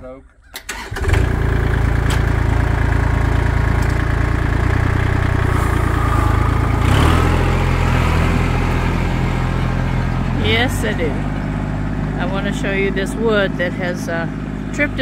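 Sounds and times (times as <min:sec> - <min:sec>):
vehicle engine idling: 0:01.2 - 0:15.0.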